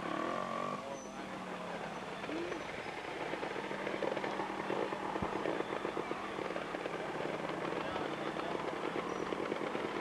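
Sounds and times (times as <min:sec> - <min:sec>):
motorcycle engine crackling at low revs: 0:00.0 - 0:10.0.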